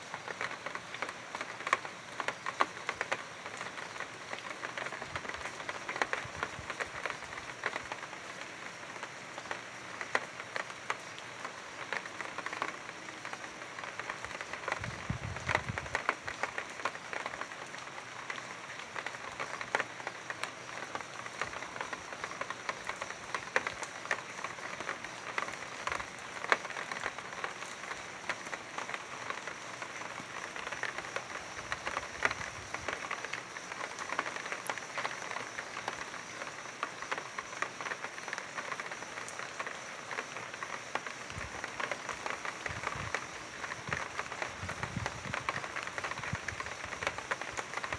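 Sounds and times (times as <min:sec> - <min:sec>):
rain drops ticking on hard surfaces: 0:00.0 - 0:47.9.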